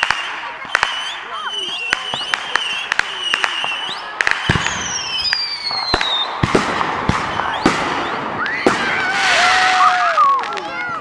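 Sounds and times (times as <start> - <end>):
firework whistle falling in pitch: 0.0 - 10.4
fireworks bangs and pops: 0.0 - 11.0
fireworks crackling: 0.0 - 11.0.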